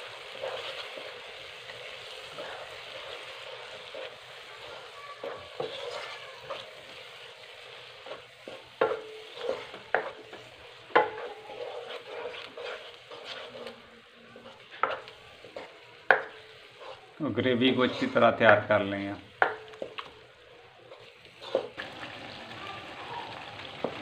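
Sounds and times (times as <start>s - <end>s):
spatula scraping a pan: 0.0s - 21.8s
food sizzling: 0.0s - 24.0s.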